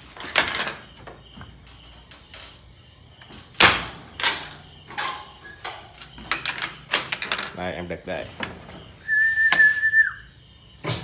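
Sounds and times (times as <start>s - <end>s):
wire-mesh cage rattling: 0.0s - 9.0s.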